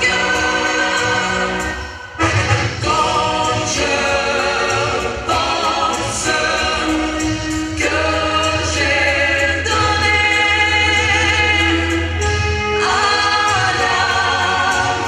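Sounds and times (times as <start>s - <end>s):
choir holding long chords: 0.0s - 15.0s.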